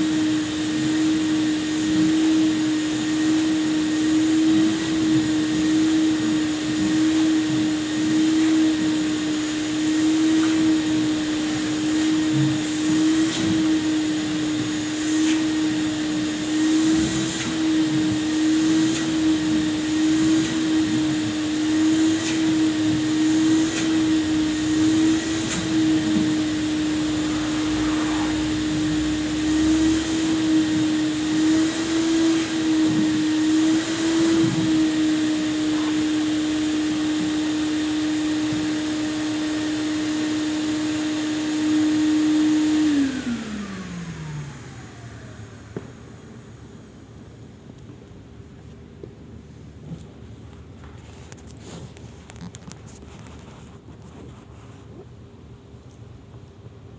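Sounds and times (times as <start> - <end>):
vacuum cleaner running: 0.0 - 55.5.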